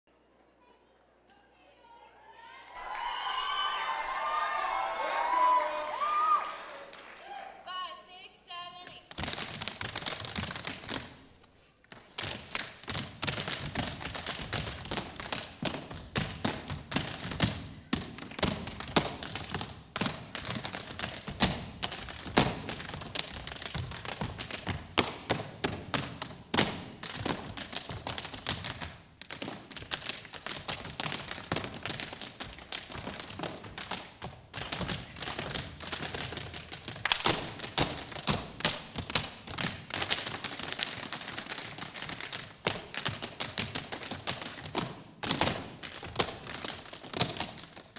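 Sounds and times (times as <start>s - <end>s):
tap shoes on wooden stage: 8.5s - 47.9s.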